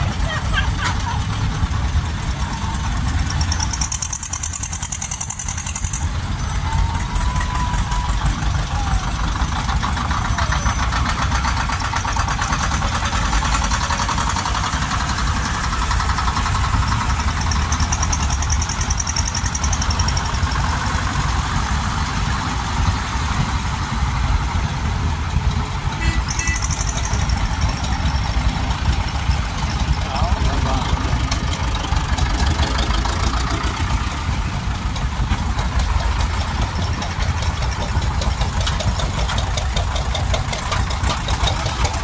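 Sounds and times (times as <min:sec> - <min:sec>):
tractor diesel engines passing: 0:00.0 - 0:42.0.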